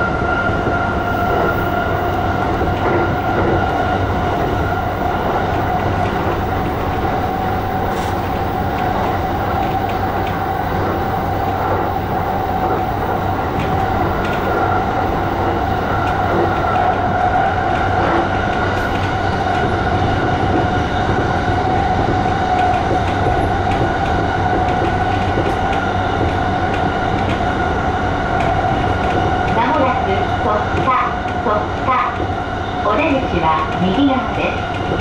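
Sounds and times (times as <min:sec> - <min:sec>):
electric train whine: 0:00.0 - 0:35.0
train wheel rumble: 0:00.0 - 0:35.0.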